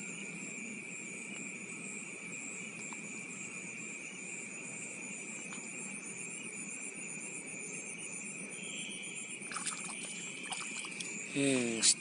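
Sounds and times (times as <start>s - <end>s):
insects trilling: 0.0s - 12.0s
very high insect chirping: 0.0s - 12.0s.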